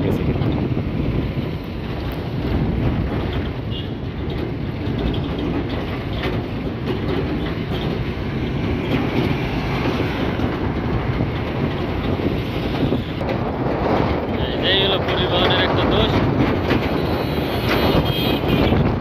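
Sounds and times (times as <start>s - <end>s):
engine and road noise in cab: 0.0s - 19.0s.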